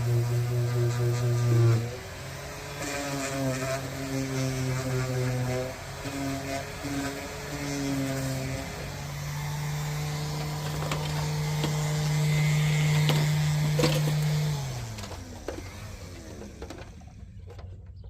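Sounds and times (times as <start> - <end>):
small electric motor spinning: 0.0 - 16.7.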